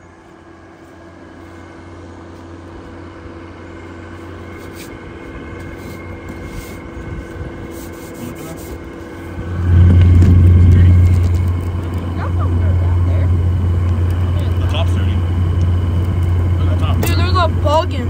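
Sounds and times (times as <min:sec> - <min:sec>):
air-conditioner unit humming: 0:00.0 - 0:18.0.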